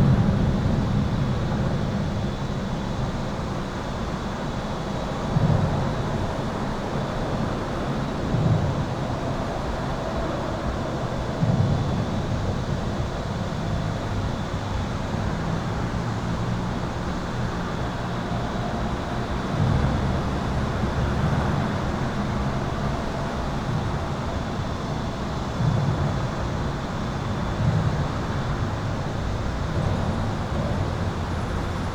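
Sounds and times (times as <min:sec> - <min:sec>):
highway traffic rushing: 0:06.3 - 0:31.9.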